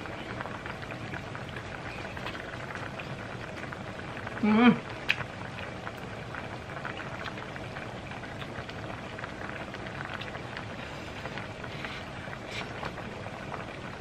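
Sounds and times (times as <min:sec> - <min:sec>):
broth bubbling in a pot: 0:00.0 - 0:14.0.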